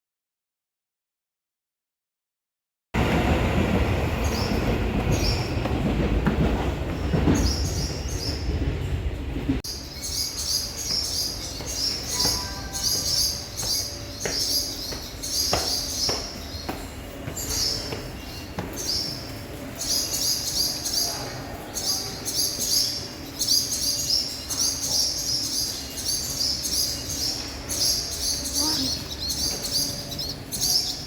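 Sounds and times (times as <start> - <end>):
swallows twittering: 4.1 - 5.8, 6.8 - 8.7, 9.7 - 31.0.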